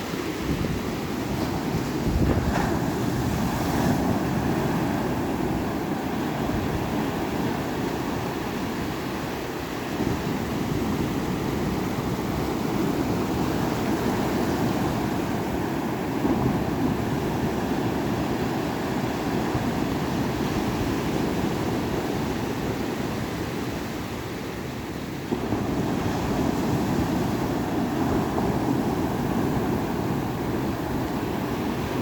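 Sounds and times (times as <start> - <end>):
ocean surf: 0.0 - 32.0.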